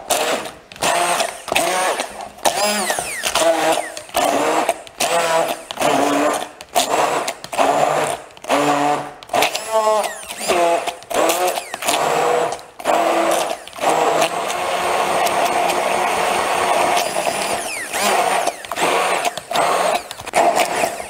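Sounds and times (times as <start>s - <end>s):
immersion blender running in jug: 0.0s - 21.0s.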